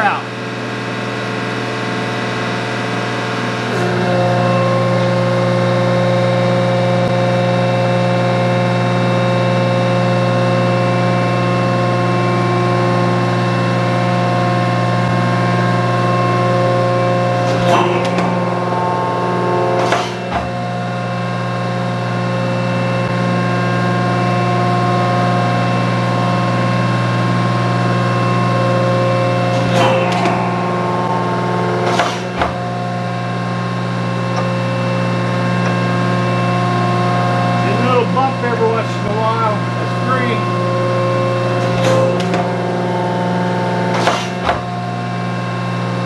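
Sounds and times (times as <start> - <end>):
metal planer mechanical hum: 0.0 - 46.0.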